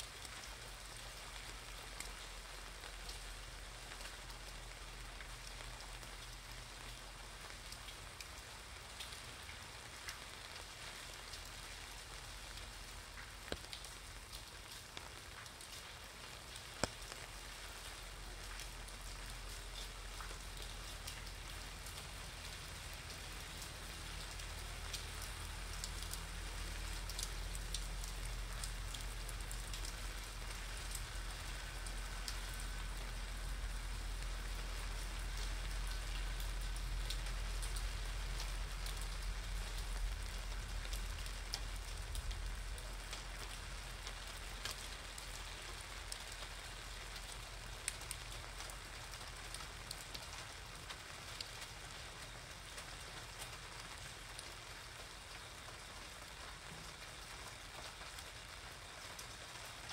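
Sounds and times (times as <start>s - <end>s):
rain on pavement and umbrella: 0.0s - 59.9s.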